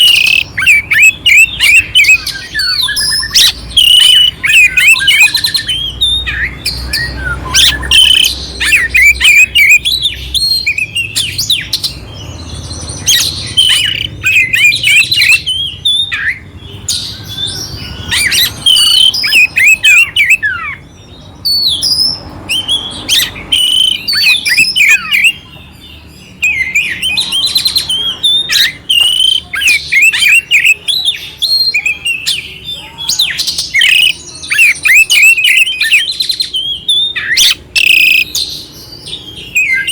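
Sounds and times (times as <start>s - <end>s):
songbird singing whistles and chirps: 0.0s - 39.9s.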